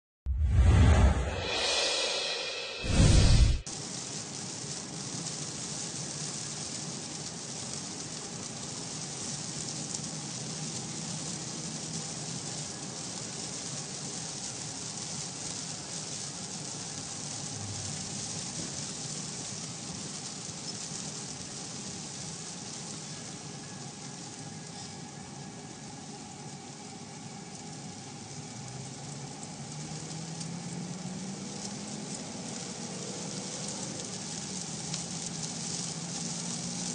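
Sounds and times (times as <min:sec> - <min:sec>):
road noise: 0:00.3 - 0:36.9
heavy rain on car roof: 0:03.6 - 0:36.9.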